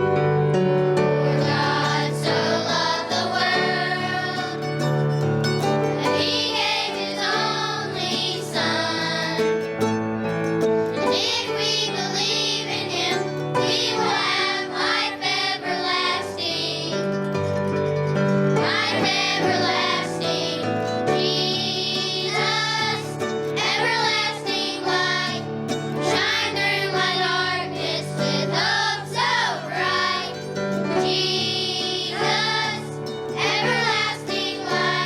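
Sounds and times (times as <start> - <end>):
children's choir singing: 0.0 - 35.0
instrumental accompaniment: 0.0 - 35.0.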